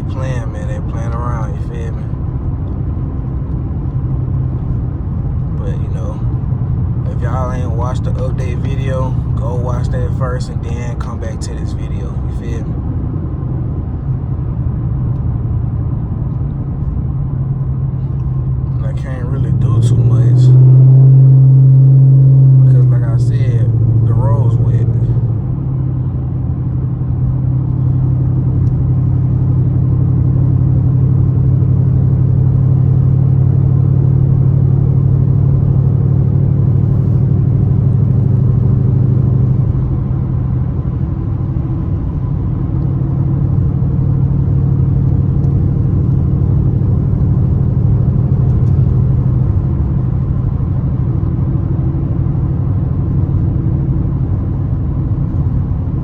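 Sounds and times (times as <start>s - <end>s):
car engine rumbling while driving: 0.0s - 56.0s.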